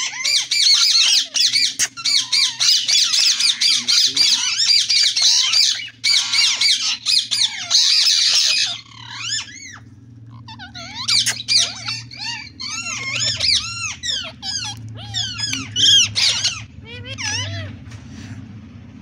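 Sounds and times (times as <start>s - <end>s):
parakeets squawking: 0.0s - 18.5s
steady low hum: 0.0s - 19.0s.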